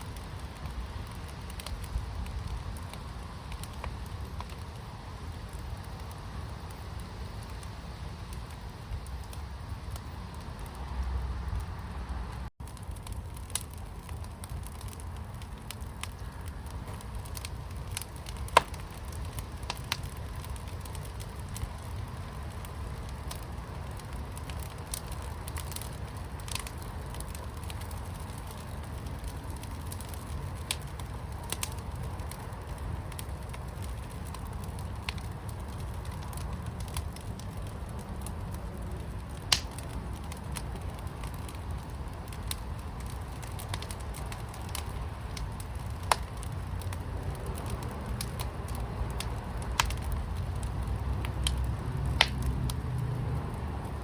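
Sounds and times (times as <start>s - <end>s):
loud fire pops: 0.0s - 11.6s, 12.4s - 54.0s
fire crackling: 0.0s - 54.0s
low fire rumble: 0.0s - 54.0s.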